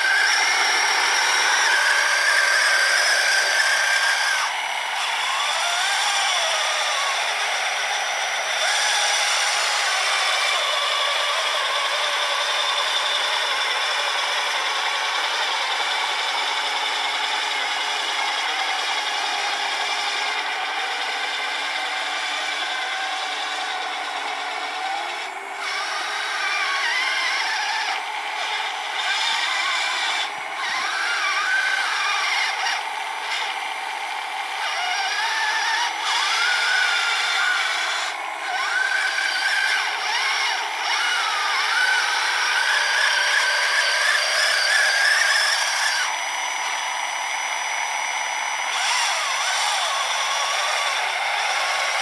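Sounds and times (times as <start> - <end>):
small electric motors whining: 0.0 - 52.0.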